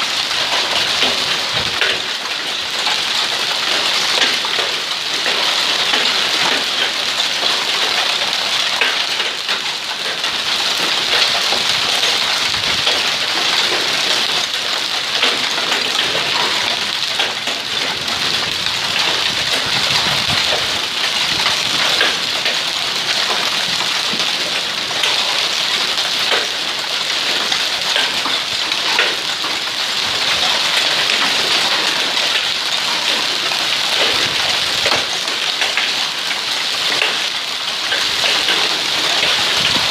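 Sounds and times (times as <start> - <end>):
hail and rain pattering: 0.0 - 39.9.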